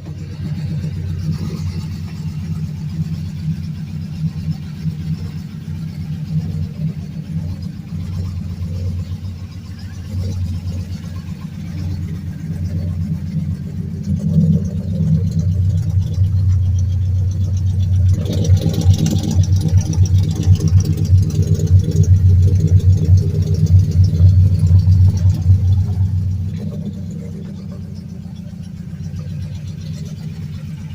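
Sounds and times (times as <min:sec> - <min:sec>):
vee eight engine exhaust: 0:00.0 - 0:30.9.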